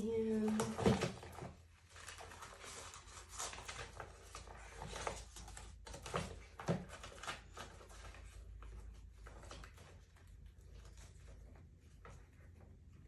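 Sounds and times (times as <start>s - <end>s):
paper rustling: 0.1s - 13.0s.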